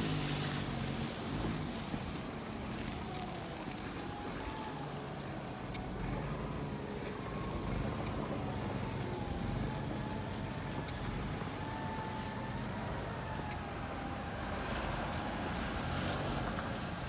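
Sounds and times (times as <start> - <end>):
low engine rumble with whine: 0.0 - 17.0.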